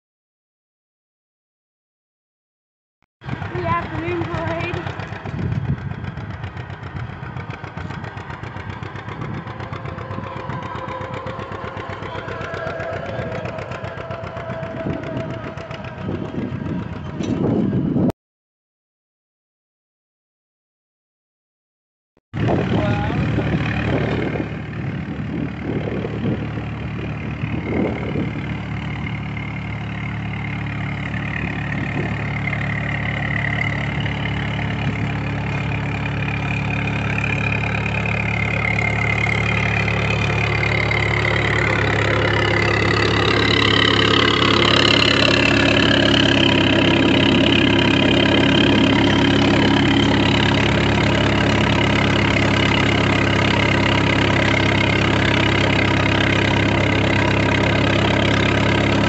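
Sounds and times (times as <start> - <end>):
engine running steadily: 3.2 - 18.1, 22.4 - 59.0.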